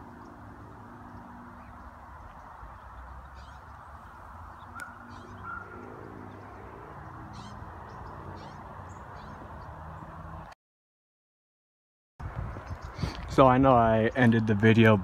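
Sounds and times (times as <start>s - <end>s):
birds calling faintly: 0.0s - 10.6s, 12.3s - 15.0s.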